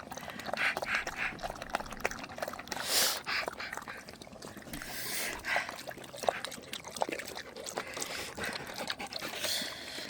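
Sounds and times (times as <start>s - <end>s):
water splashing in a bowl: 0.0s - 10.0s.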